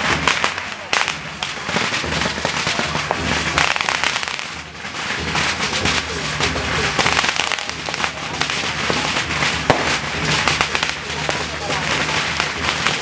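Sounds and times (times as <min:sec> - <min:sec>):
firecrackers crackling: 0:00.0 - 0:13.0.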